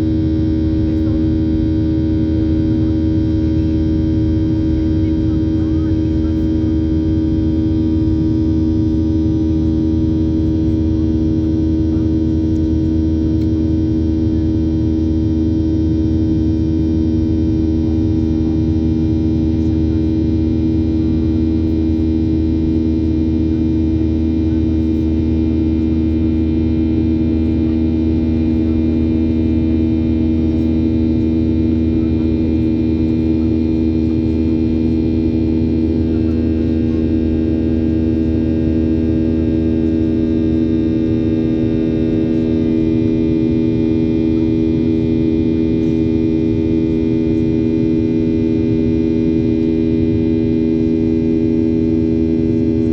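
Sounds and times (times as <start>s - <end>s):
airplane cabin drone: 0.0s - 52.9s.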